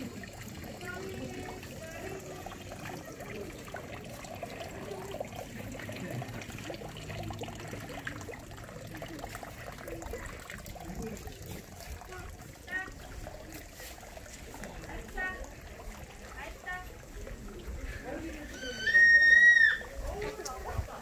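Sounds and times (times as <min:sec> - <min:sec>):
water trickling into stone basin: 0:00.0 - 0:21.0.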